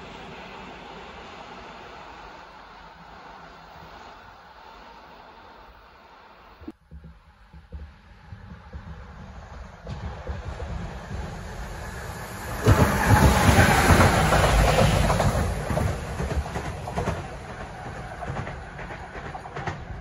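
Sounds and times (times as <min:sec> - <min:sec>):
electric locomotives passing: 0:00.0 - 0:06.8, 0:07.4 - 0:20.0.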